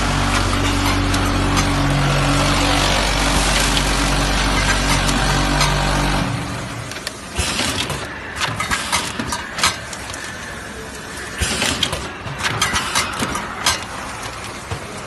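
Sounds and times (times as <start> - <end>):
machine clicks and clunks: 0.2 - 2.0, 3.4 - 10.2, 11.4 - 15.0.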